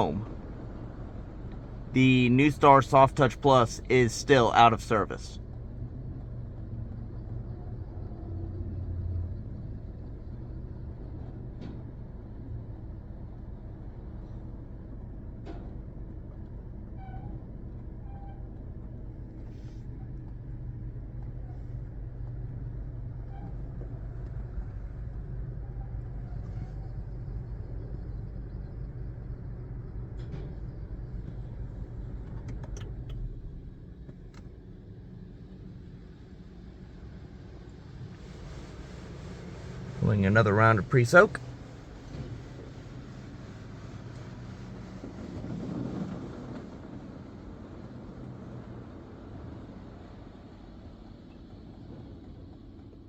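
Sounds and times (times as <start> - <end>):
car wash rumble: 0.0 - 53.0.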